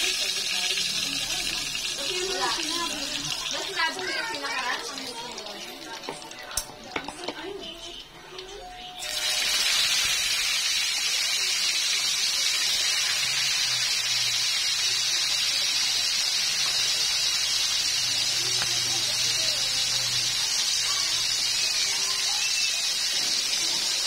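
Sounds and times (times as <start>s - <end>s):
fish frying in hot oil: 0.0s - 24.0s.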